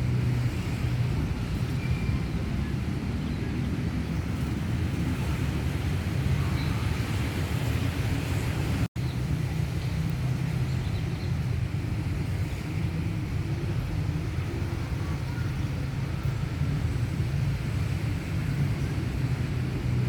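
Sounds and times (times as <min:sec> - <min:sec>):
passing traffic rumble: 0:00.0 - 0:20.0.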